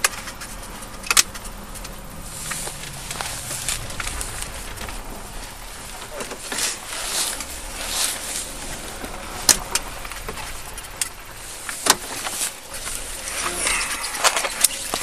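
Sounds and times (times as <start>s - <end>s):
low steady rumble: 0.0s - 15.0s
camera rustling against clothing: 1.4s - 15.0s.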